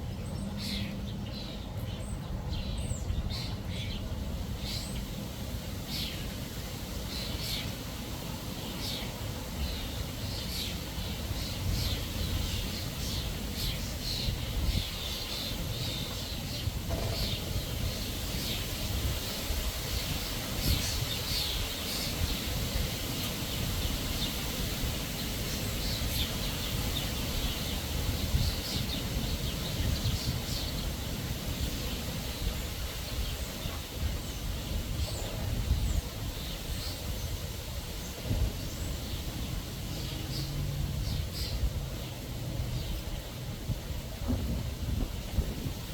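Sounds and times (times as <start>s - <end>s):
birds chirping: 0.0s - 43.6s.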